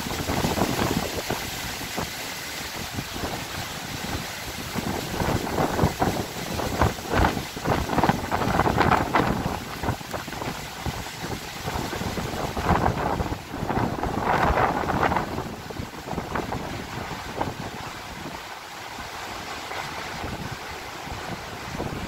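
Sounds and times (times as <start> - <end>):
gusty wind buffeting microphone: 0.0 - 22.0.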